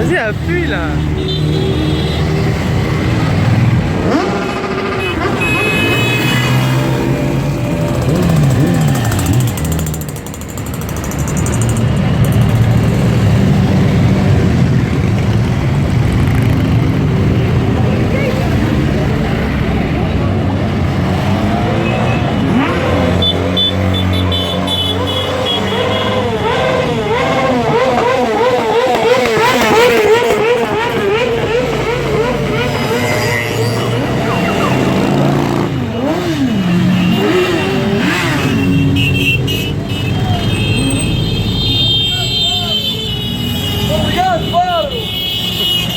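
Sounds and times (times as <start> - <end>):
motorcycle engine rumbling: 0.0 - 44.5.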